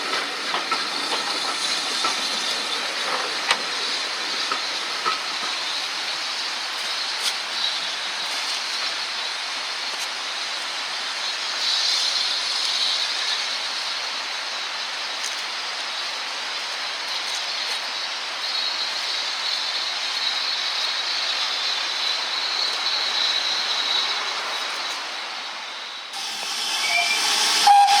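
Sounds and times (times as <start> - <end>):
steam locomotive hissing: 0.0 - 15.2, 16.0 - 28.0.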